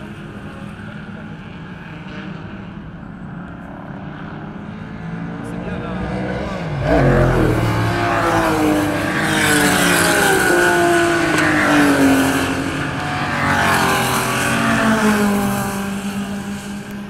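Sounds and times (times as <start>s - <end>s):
racing cars passing by: 0.0s - 17.0s.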